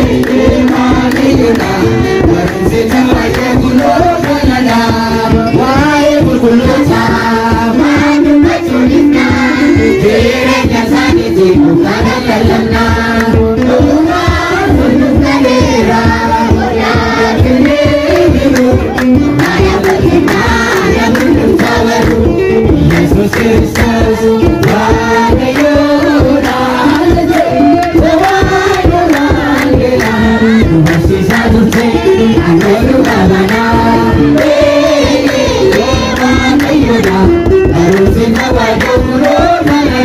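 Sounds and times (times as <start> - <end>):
choir singing a hymn in unison: 0.0 - 40.0
hand clapping beat: 0.0 - 40.0.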